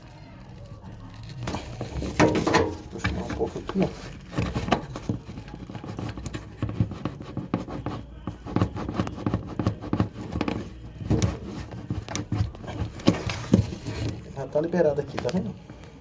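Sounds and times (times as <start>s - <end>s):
shock absorber knocking and scraping: 1.3s - 15.8s.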